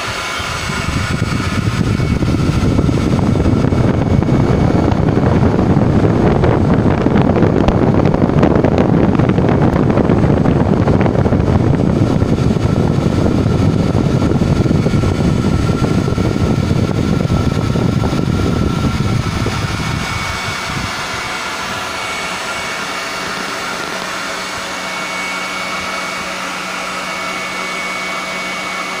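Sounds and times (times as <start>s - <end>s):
electric ducted fan rushing air: 0.0s - 29.0s.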